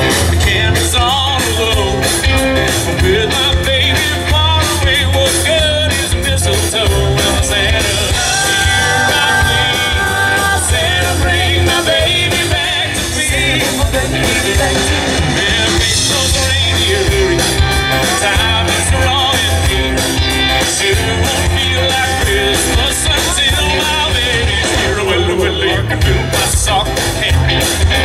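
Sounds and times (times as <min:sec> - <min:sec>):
drums: 0:00.0 - 0:28.0
electric guitar: 0:00.0 - 0:28.0
live rock and roll band: 0:00.0 - 0:28.0.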